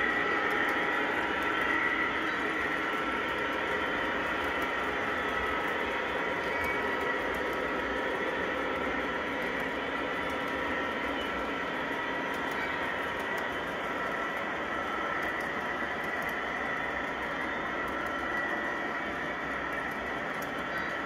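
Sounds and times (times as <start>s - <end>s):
model train wheels rumbling on rail: 0.0s - 21.0s
steady whine: 0.0s - 21.0s.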